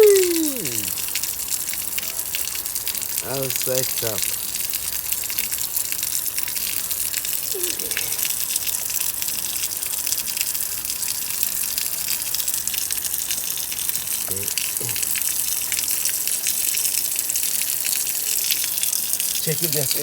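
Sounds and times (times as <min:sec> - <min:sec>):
water gushing from garden tap: 0:00.0 - 0:20.0.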